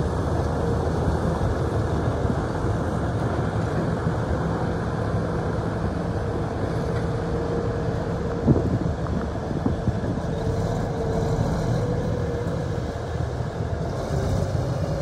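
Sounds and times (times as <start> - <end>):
steady whine: 0.0 - 15.0
truck diesel engine running: 0.0 - 15.0.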